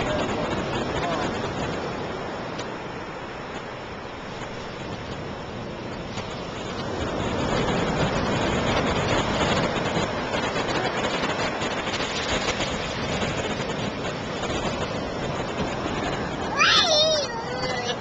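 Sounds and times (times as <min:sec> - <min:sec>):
ocean surf washing up beach: 0:00.0 - 0:18.0.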